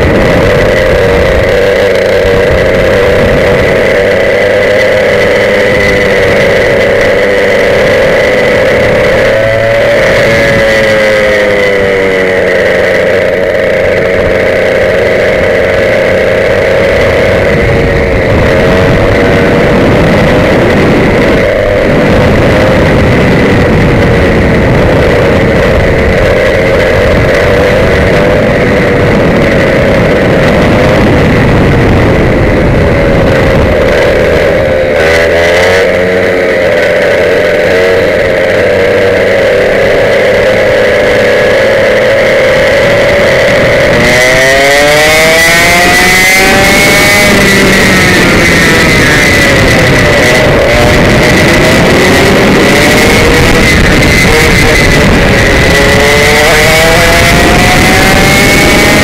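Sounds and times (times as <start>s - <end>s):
kart engine at high revs: 0.0s - 59.0s.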